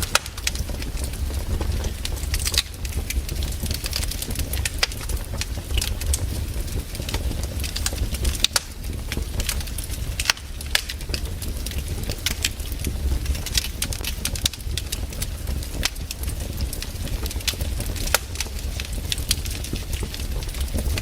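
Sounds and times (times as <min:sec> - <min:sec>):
firewood crackling and popping: 0:00.0 - 0:21.0
low rumble of fire: 0:00.0 - 0:21.0.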